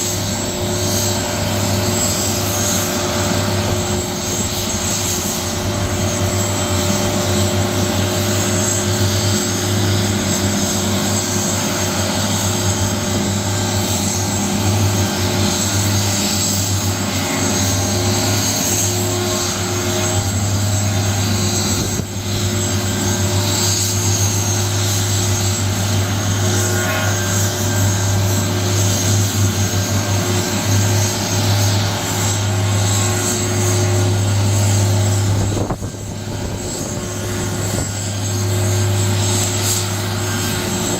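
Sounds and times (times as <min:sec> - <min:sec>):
helicopter rotor drone: 0:00.0 - 0:40.9
helicopter turbine whine: 0:00.0 - 0:40.9.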